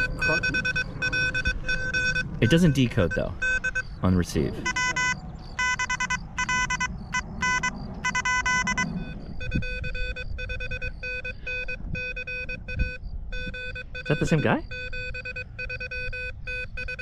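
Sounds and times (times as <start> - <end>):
morse code beeps: 0.0 - 17.0.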